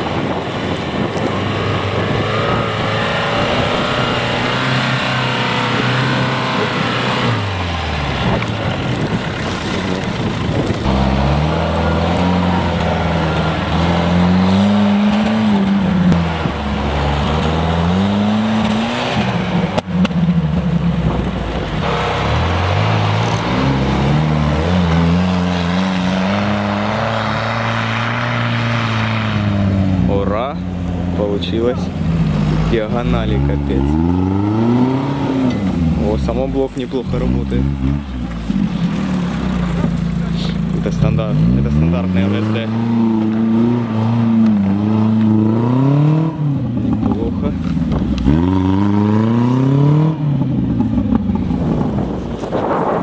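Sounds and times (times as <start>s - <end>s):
suv engine revving: 0.0s - 53.0s.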